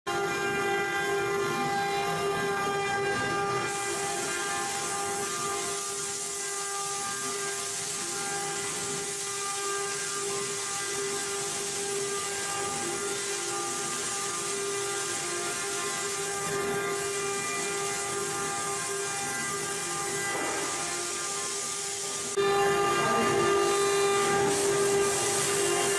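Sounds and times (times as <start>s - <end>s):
router spindle high whine: 0.1s - 25.9s
cutting hiss: 3.6s - 22.4s, 23.6s - 25.9s.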